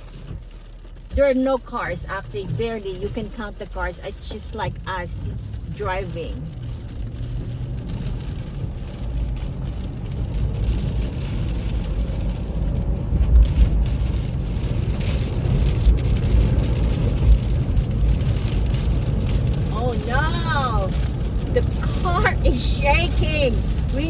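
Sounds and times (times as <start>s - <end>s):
rain: 0.0s - 24.0s
storm wind gusts buffeting truck: 0.0s - 24.0s.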